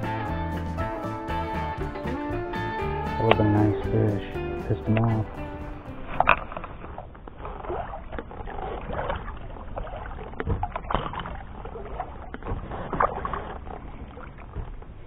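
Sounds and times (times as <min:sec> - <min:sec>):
paddle strokes through water: 0:00.0 - 0:15.0
water splashing and dripping: 0:00.0 - 0:15.0.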